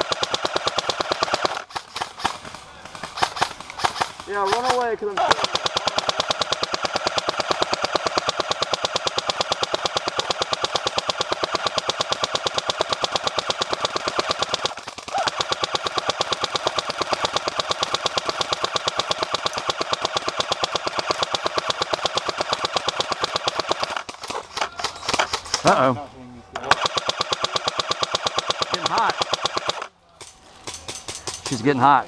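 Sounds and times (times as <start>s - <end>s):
rapid toy gun fire: 0.0s - 25.8s, 26.6s - 29.9s.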